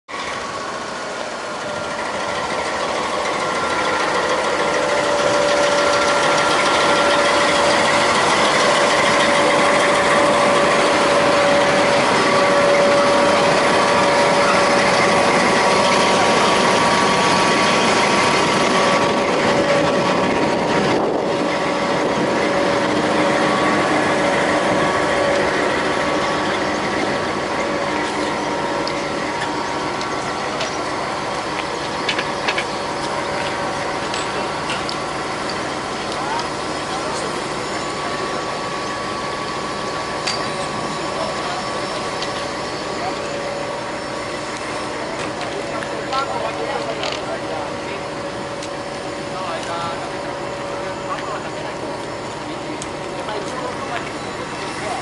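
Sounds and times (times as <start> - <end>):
diesel locomotive engine running: 0.0 - 55.0
engine whining tones: 0.1 - 55.0.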